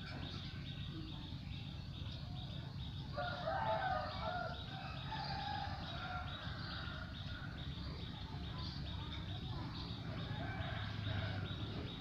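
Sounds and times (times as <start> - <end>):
faint high chirps: 0.0 - 12.0.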